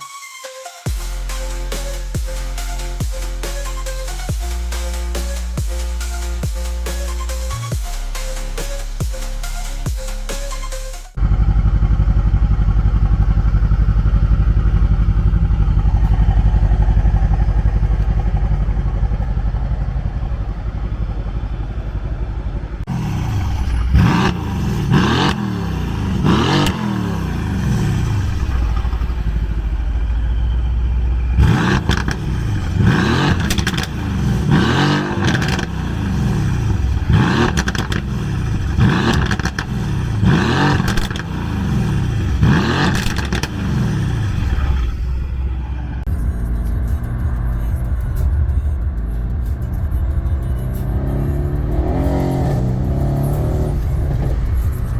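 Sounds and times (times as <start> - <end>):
car engine revving: 0.9 - 54.9.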